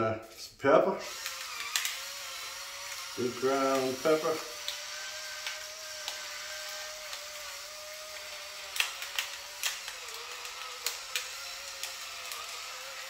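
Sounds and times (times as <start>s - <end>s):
peppercorns cracking: 0.3s - 13.0s
pepper grinder motor whine: 1.0s - 13.0s.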